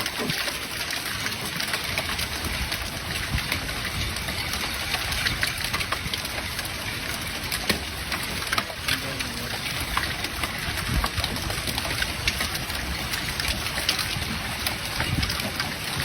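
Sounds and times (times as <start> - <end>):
heavy rain: 0.0 - 16.0
raindrops tapping a surface: 0.0 - 16.0.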